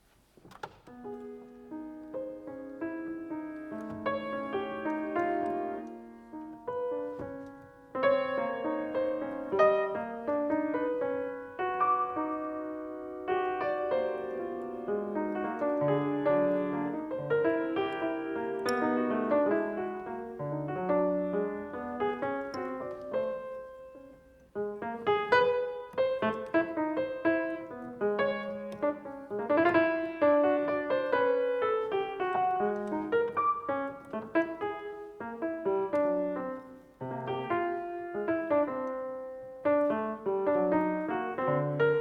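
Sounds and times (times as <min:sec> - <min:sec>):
solo piano playing: 0:00.0 - 0:42.0.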